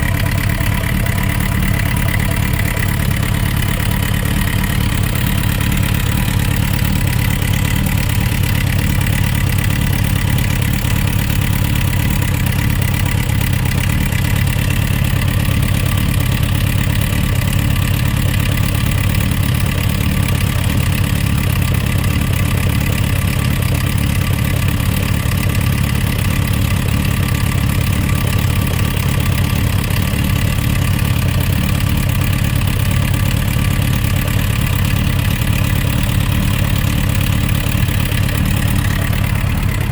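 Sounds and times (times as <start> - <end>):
engine knocking: 0.0 - 39.9
motorcycle engine idling: 0.0 - 39.9.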